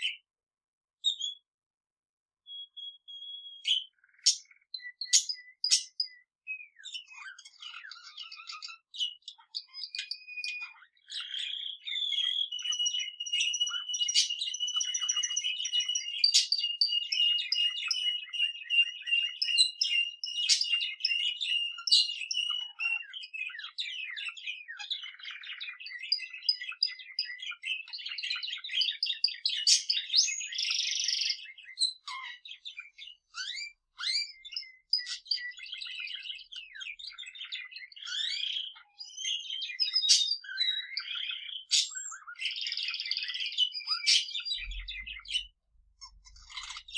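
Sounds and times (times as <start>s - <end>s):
canary singing: 1.0s - 1.5s, 2.4s - 46.9s.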